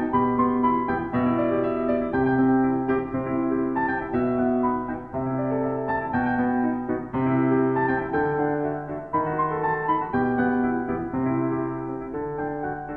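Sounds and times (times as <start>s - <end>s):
slow gentle piano chords: 0.0s - 12.9s.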